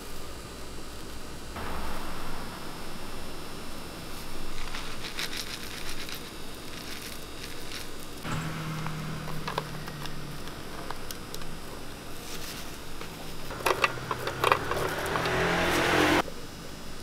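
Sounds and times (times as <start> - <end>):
motor-like hum: 1.6 - 16.3.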